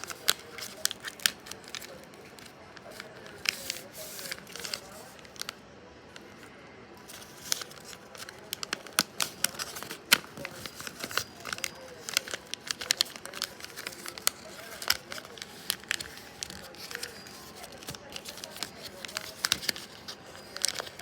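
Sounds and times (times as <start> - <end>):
paper crinkling and folding: 0.0 - 21.0.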